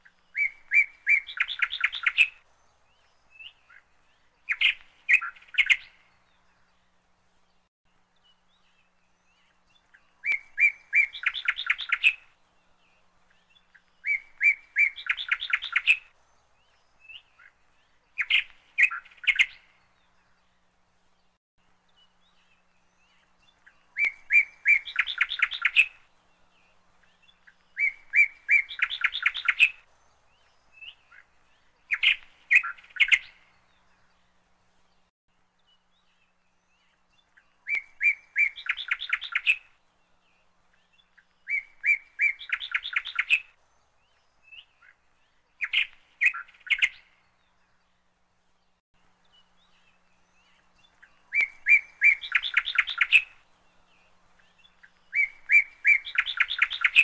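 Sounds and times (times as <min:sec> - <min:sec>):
small bird chirping: 0:00.0 - 0:06.9, 0:07.6 - 0:57.0.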